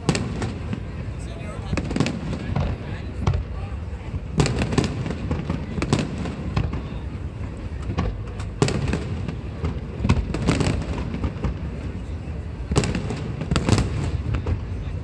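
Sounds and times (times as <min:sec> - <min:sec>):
fireworks cracks and booms: 0:00.0 - 0:15.0.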